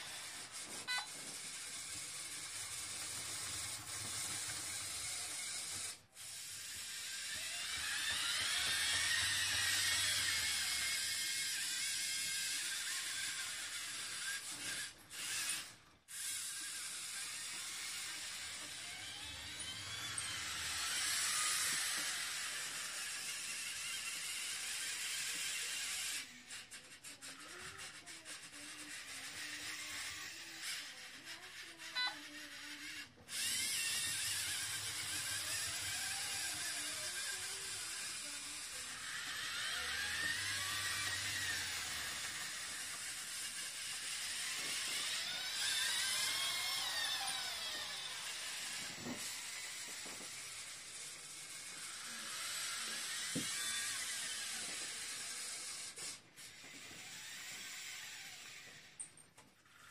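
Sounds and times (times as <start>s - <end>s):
robot arm motors whirring: 0.0s - 59.9s.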